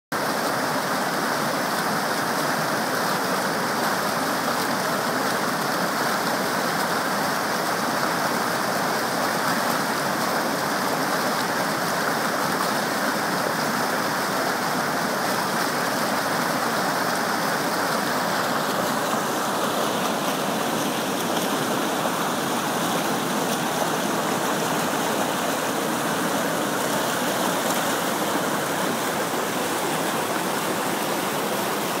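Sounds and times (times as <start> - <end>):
water rushing over rock: 0.2 - 32.0.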